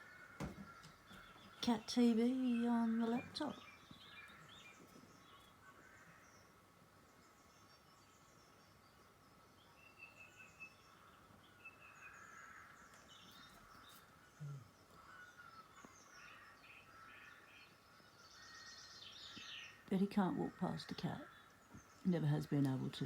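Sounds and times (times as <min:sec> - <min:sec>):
songbirds chirping through speakers: 0:00.0 - 0:23.0.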